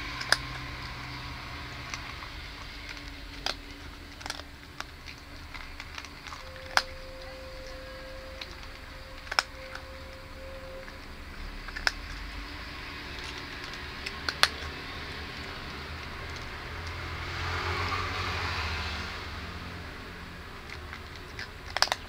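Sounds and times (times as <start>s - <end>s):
cat crunching dry kibble: 0.0s - 18.7s, 19.4s - 22.0s.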